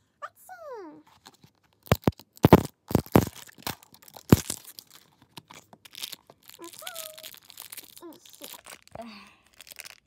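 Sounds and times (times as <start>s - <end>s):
plastic wrapping tearing: 1.8s - 10.0s.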